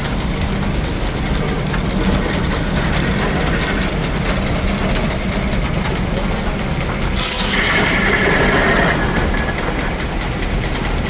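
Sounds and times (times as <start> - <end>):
fast even ticking: 0.0 - 11.0
steam engine running: 0.0 - 11.0.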